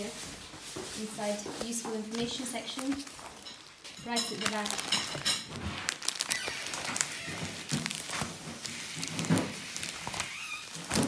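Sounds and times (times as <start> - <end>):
plastic pockets crinkling: 0.0 - 11.0.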